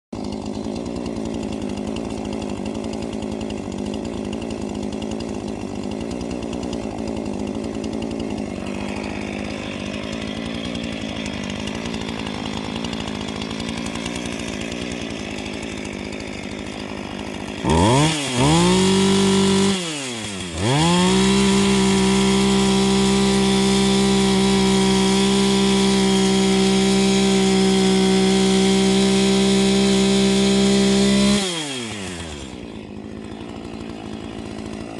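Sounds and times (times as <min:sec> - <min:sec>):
chainsaw idling and revving: 0:00.1 - 0:34.9.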